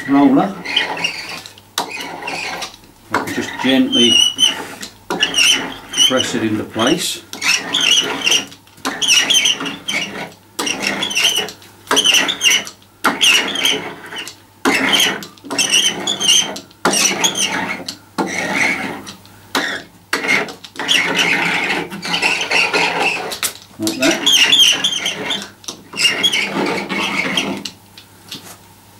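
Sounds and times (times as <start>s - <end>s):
rubber roller squeaking over vinyl: 0.0s - 28.6s.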